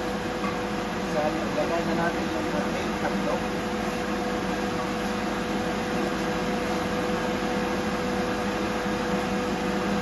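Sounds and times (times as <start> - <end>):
fan motor humming: 0.0 - 10.0.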